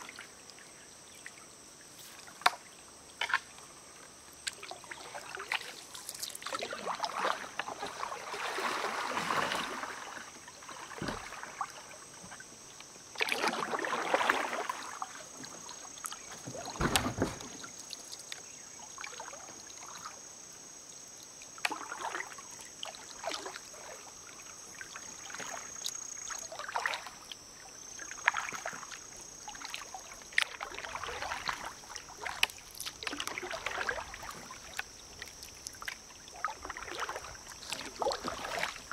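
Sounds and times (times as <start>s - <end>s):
paddle splashing water: 1.2s - 20.3s, 21.3s - 38.9s.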